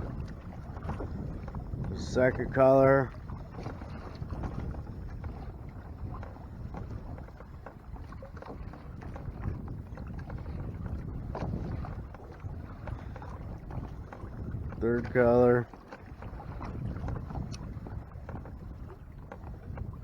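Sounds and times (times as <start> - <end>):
water lapping against hull: 0.0 - 20.0
wind rumbling on microphone: 0.0 - 20.0.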